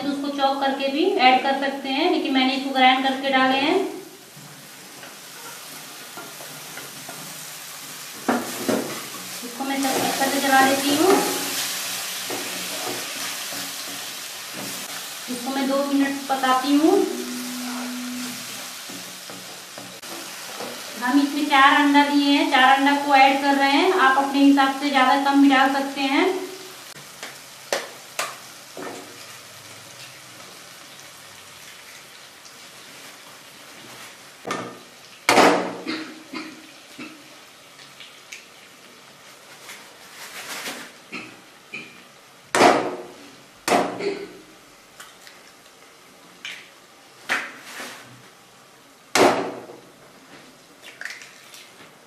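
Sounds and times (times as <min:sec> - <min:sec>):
masala sizzling in pan: 0:00.0 - 0:50.8.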